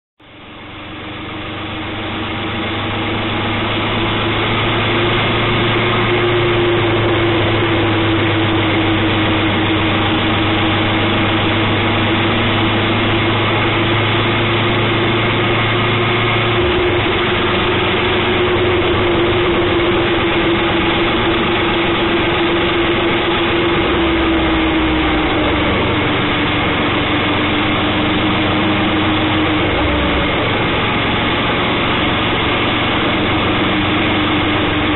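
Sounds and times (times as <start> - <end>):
low hum: 0.2 - 34.9
wind and road noise: 0.2 - 34.9
motorcycle engine cruising: 0.4 - 34.9.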